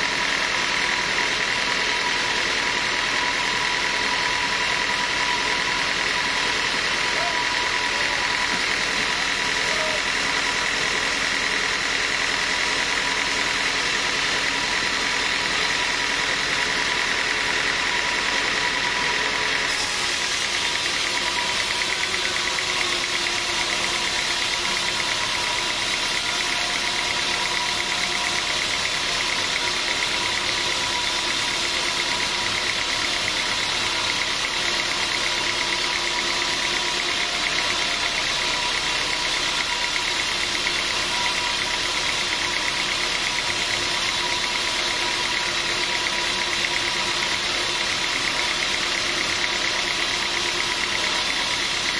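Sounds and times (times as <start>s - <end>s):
sawmill machinery drone: 0.0s - 51.9s
steady mechanical whine: 0.0s - 51.9s.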